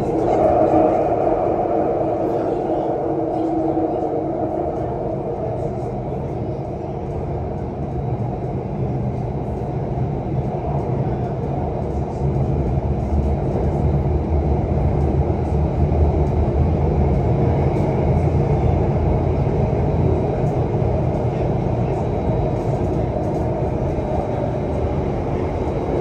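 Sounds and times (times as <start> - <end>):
metro train running in tunnel: 0.0 - 26.0.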